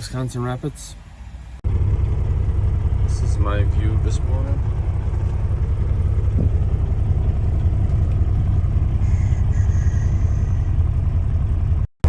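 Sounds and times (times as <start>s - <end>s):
diesel truck engine idling: 0.0s - 11.9s.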